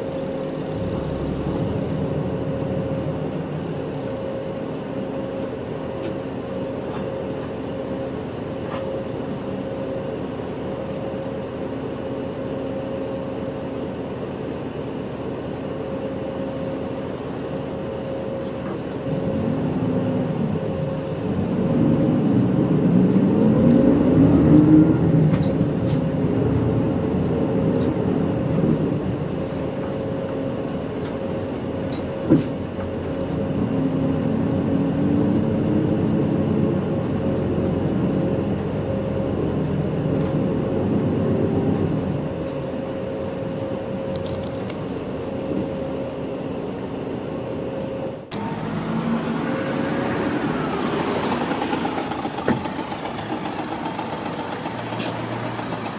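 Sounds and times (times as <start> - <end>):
bus engines running: 0.0 - 55.9
street traffic: 0.0 - 55.9.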